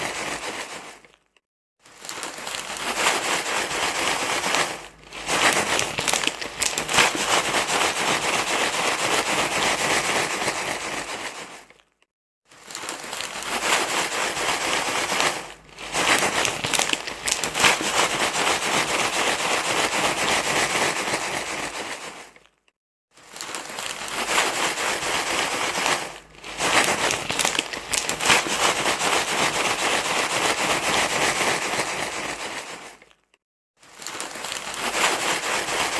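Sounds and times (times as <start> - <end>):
dense crinkling rustling: 0.0 - 35.9.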